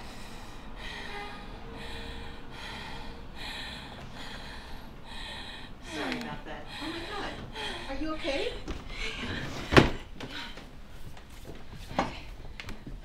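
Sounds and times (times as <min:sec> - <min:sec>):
woman gasping breaths: 0:00.0 - 0:10.8.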